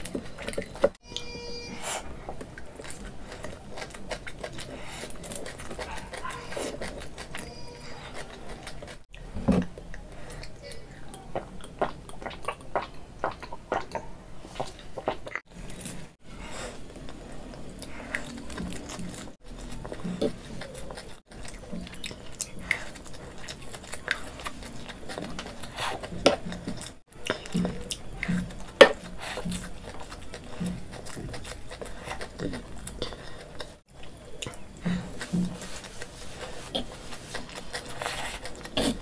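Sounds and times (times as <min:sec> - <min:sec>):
chewing noodles: 0:02.0 - 0:39.0.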